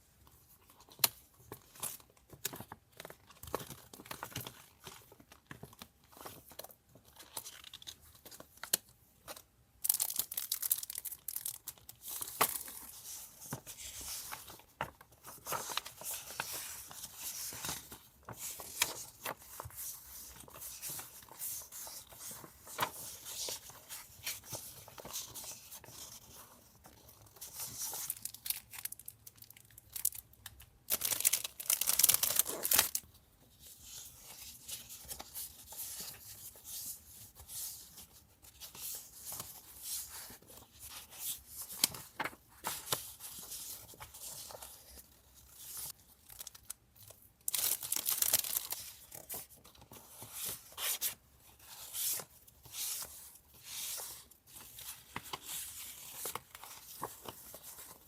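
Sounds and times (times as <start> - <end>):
paper rustling and crinkling: 0.3 - 58.0.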